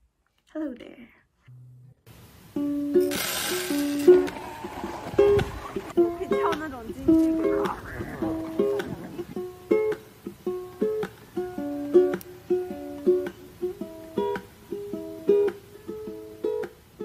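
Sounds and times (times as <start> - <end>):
plucked string tune: 1.5 - 17.0.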